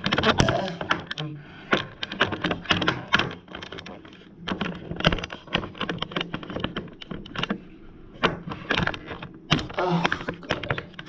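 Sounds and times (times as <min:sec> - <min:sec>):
clatter of clicks and knocks: 0:00.0 - 0:11.0.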